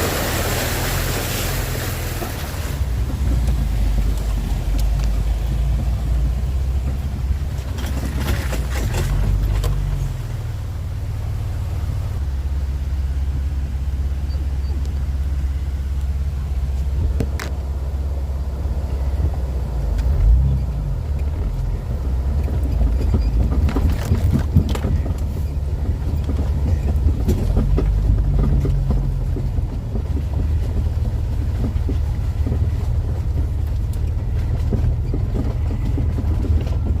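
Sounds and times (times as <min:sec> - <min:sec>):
vehicle engine low rumble: 0:00.0 - 0:37.0.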